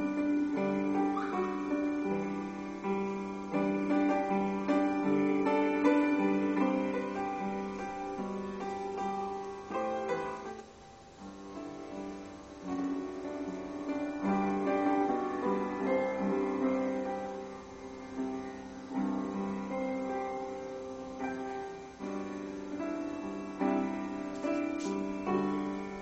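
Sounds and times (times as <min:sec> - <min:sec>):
piano music through small speaker: 0:00.0 - 0:26.0.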